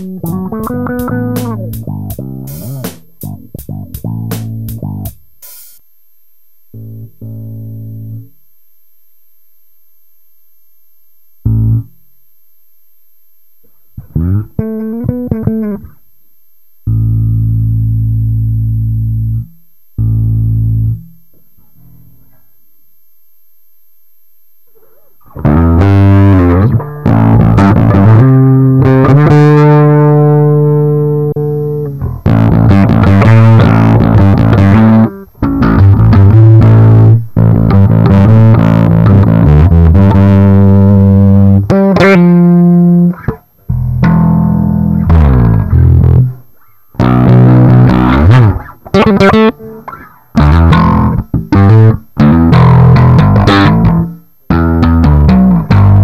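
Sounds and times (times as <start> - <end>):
electric bass riff: 0.0 - 5.8, 6.7 - 8.3, 11.4 - 12.0, 14.0 - 16.1, 16.8 - 22.4, 24.7 - 56.0.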